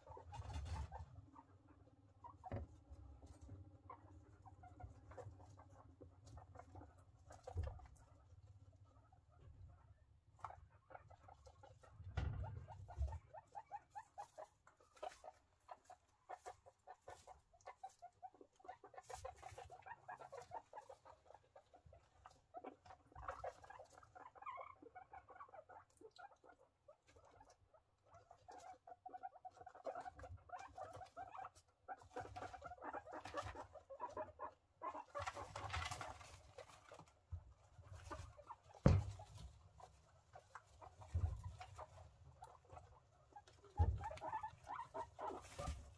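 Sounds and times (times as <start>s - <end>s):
guinea pigs rustling in bedding: 0.0s - 45.9s.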